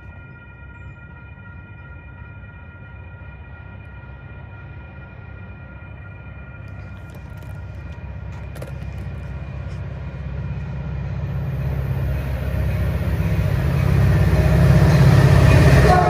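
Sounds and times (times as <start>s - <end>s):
train engine and wheel rumble: 0.0s - 16.0s.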